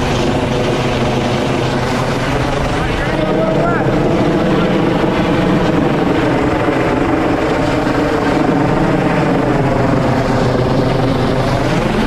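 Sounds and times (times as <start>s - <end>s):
helicopter hovering: 0.0s - 12.0s.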